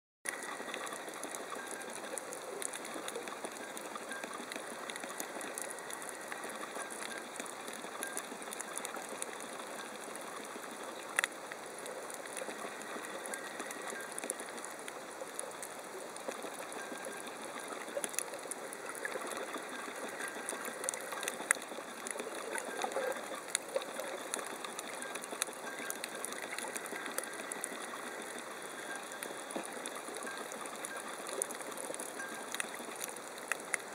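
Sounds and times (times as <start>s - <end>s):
sharp underwater clicks: 0.3s - 33.9s
underwater crackle of clicks: 0.3s - 33.9s.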